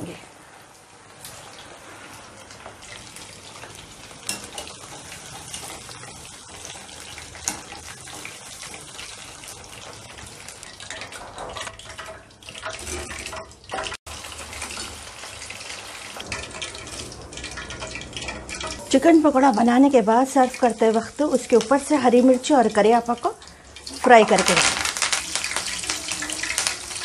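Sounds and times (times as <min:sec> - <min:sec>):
food deep-frying in oil: 0:00.0 - 0:27.0.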